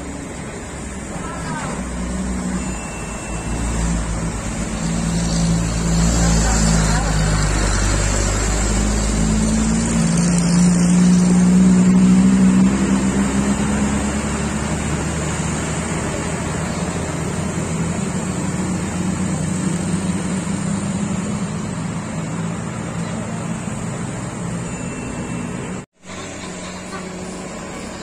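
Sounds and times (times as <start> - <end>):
diesel truck engines pulling hard: 0.0 - 28.0
motorcycles passing: 0.0 - 28.0
traffic noise: 0.0 - 28.0.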